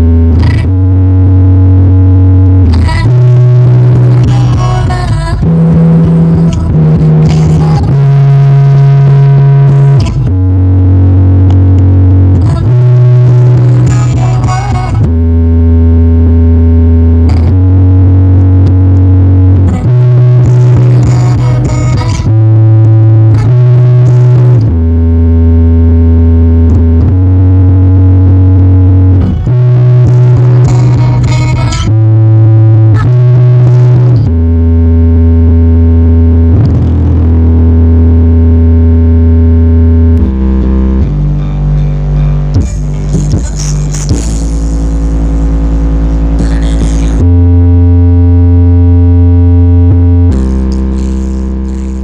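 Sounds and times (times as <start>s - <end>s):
distorted bass-heavy music: 0.0s - 52.0s.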